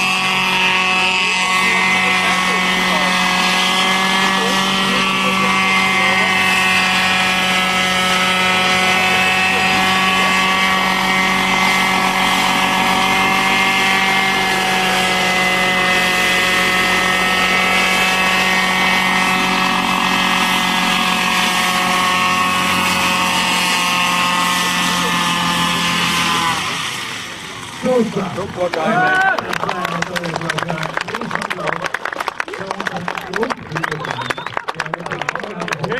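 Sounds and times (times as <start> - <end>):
helicopter engine and rotors whine: 0.0 - 31.6.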